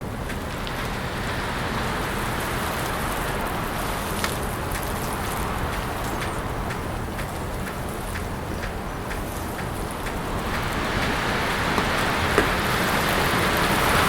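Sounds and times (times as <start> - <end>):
snow storm hiss: 0.0 - 14.0.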